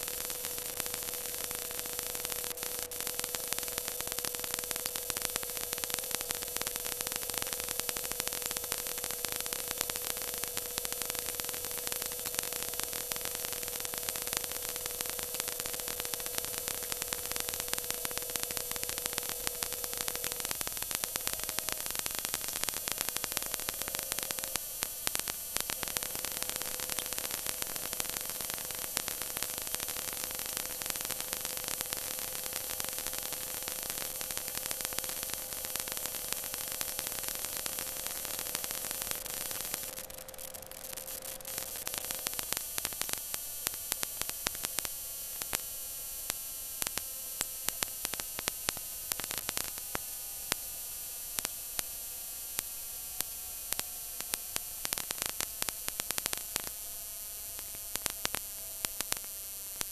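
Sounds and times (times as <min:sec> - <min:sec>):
harsh crackling hiss: 0:00.0 - 0:59.9.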